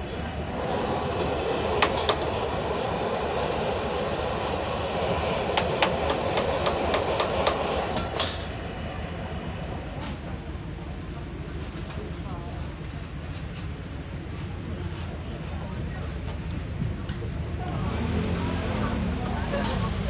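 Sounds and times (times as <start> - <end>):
gas burner roar and sizzle: 0.0 - 20.0.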